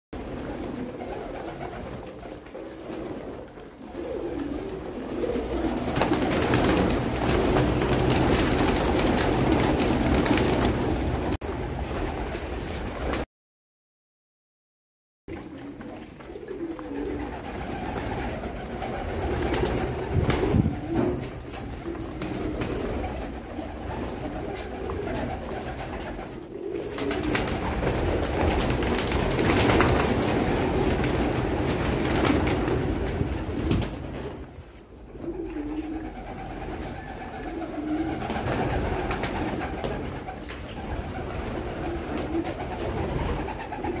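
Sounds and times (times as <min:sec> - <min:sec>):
pigeons cooing: 0:00.2 - 0:11.2, 0:15.3 - 0:33.6, 0:35.0 - 0:44.0
wings flapping: 0:00.2 - 0:13.2, 0:15.3 - 0:44.0.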